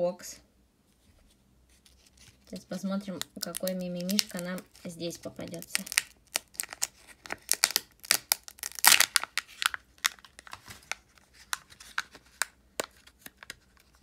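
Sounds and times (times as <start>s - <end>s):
wrapper tearing and crinkling: 1.9s - 14.0s.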